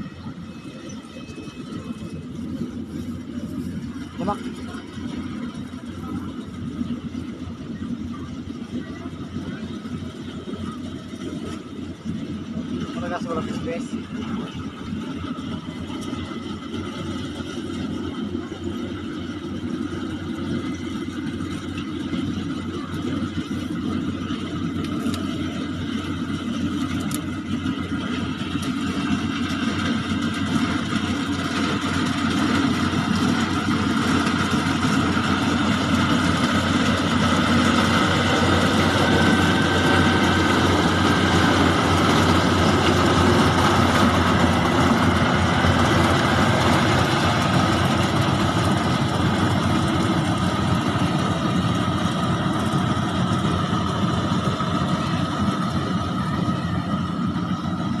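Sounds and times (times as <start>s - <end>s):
harvesting machine running: 0.0s - 58.0s.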